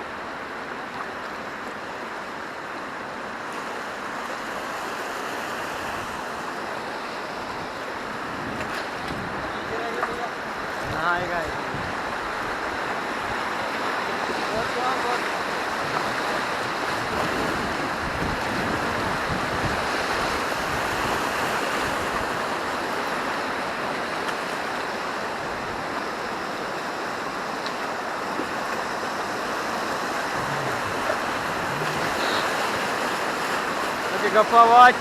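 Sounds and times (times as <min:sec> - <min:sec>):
river rapids rushing: 0:00.0 - 0:35.0.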